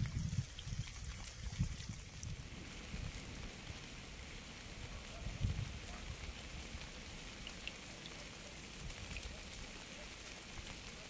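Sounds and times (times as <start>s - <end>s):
raindrops ticking: 0.0s - 11.0s
steady rain hiss: 0.0s - 11.0s.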